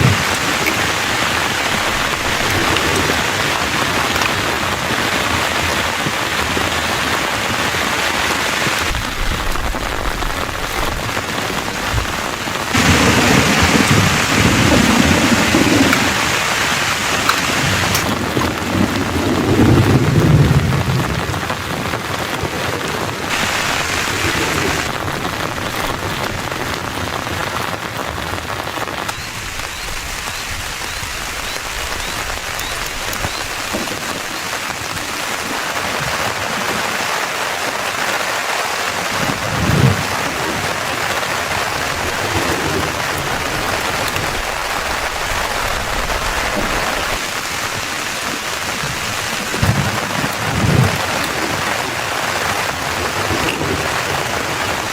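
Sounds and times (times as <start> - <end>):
heavy rain on a tent: 0.0 - 54.9.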